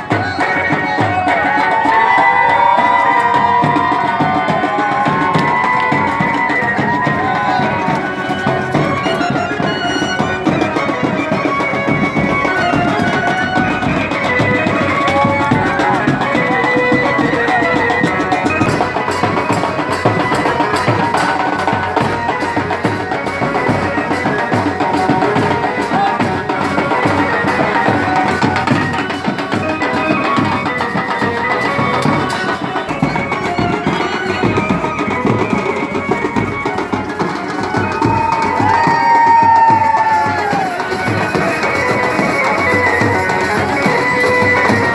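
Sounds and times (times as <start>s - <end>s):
fast drumming: 0.0s - 44.9s
wavering melody: 0.0s - 44.9s.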